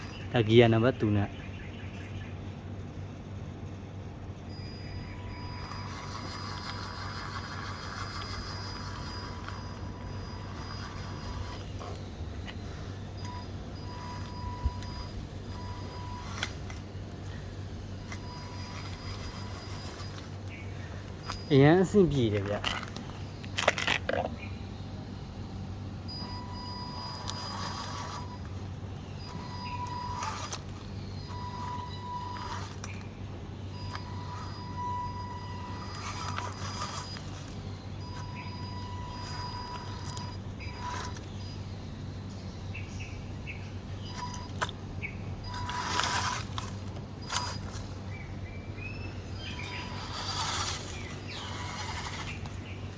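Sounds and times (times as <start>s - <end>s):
toy truck motor whine: 0.0s - 1.0s, 4.5s - 52.9s.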